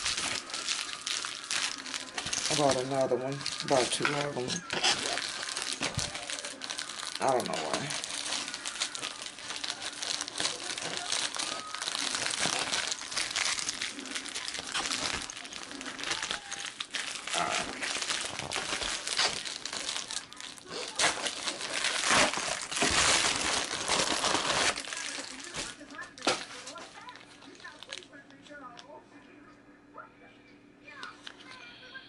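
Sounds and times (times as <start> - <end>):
plastic bag crinkling: 0.0 - 28.9.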